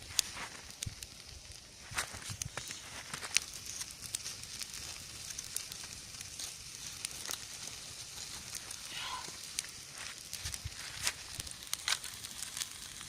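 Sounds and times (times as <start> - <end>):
campfire crackling and popping: 0.0 - 13.0
fire hissing: 0.0 - 13.0.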